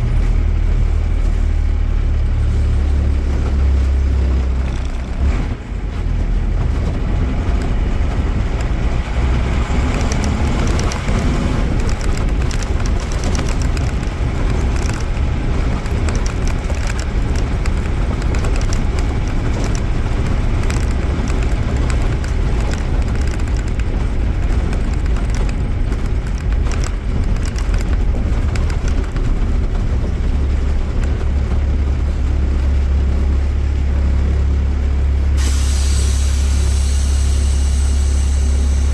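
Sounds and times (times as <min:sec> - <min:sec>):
bus diesel engine droning: 0:00.0 - 0:38.9.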